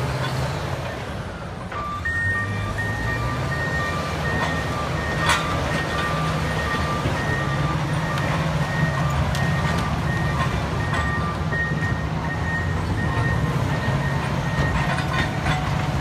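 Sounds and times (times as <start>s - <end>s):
bulldozer diesel drone: 0.0s - 16.0s
backup alarms beeping: 1.8s - 16.0s.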